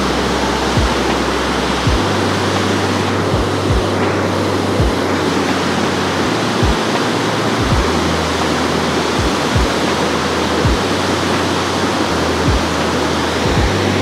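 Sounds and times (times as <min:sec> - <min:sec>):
short low thumps: 0:00.0 - 0:11.1, 0:12.4 - 0:14.0
water rushing over a spillway: 0:00.0 - 0:14.0.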